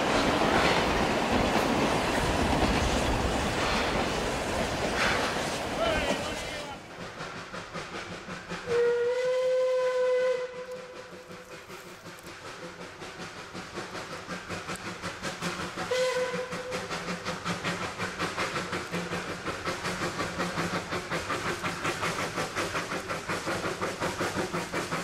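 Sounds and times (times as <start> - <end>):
steam locomotive exhaust beats: 0.0 - 25.0.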